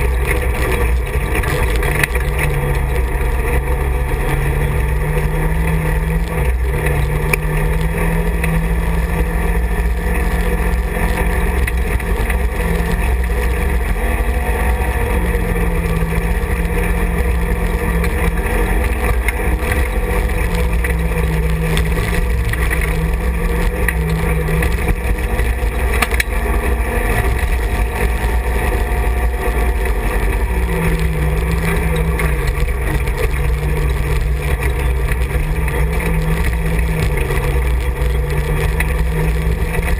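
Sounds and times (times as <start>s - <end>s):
engine droning: 0.0s - 39.9s.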